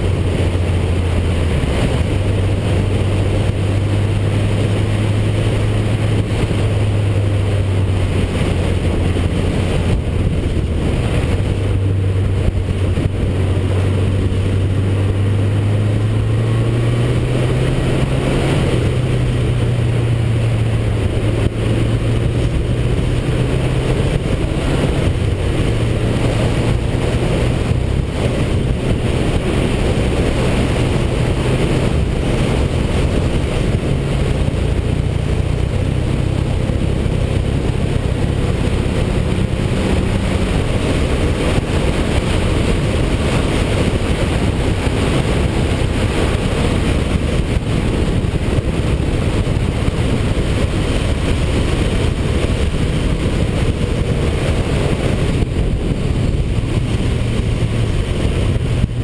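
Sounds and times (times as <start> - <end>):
motorcycle engine: 0.0 - 59.0
wind noise on microphone: 0.0 - 59.0.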